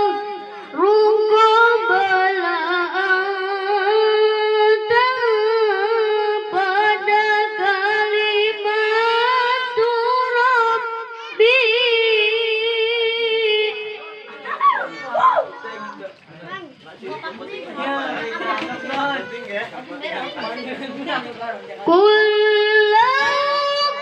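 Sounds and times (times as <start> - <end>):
boy chanting into a microphone: 0.0 - 14.3, 17.7 - 24.0.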